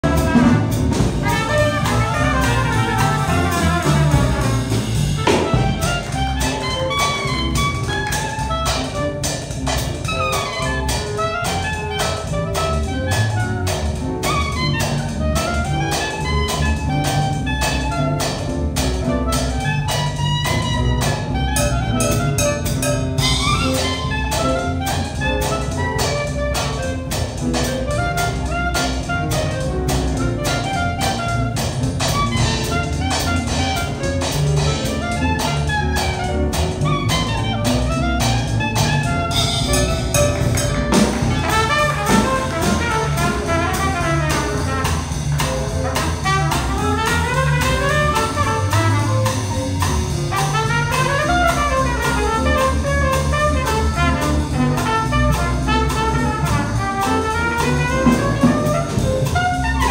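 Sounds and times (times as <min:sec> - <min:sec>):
busy drumming: 0:00.0 - 0:59.9
jazz band playing: 0:00.0 - 0:59.9
trumpet running lines: 0:00.0 - 0:59.9.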